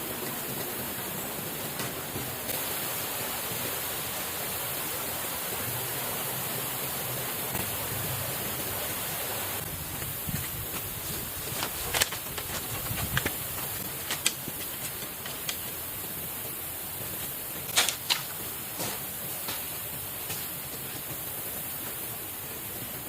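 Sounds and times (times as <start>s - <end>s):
river water flowing: 0.0s - 23.0s.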